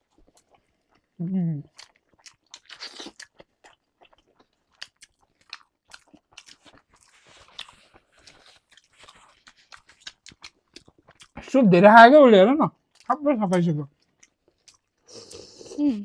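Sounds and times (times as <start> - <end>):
person chewing food: 0.0 - 11.5, 12.8 - 13.1, 14.0 - 15.8.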